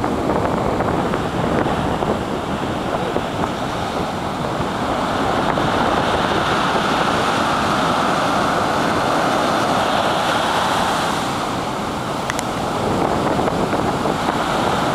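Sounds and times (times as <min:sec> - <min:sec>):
ocean surf breaking: 0:00.0 - 0:14.9
wind buffeting microphone: 0:00.0 - 0:14.9.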